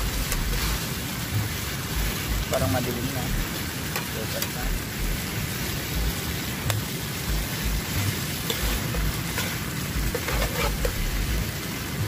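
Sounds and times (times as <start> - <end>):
tofu sizzling in frying pan: 0.0 - 12.0.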